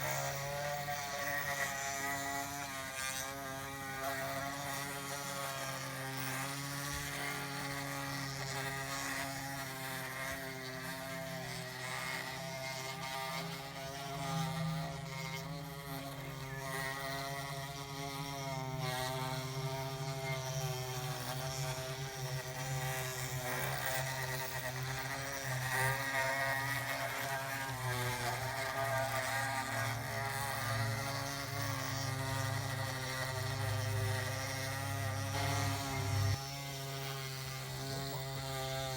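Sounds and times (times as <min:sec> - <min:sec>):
model machine motors whining: 0:00.0 - 0:38.9.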